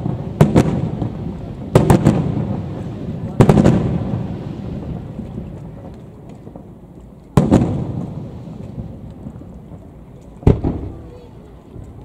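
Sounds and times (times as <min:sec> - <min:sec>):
firework booms with echo: 0:00.0 - 0:06.8, 0:07.4 - 0:09.8, 0:10.4 - 0:11.4.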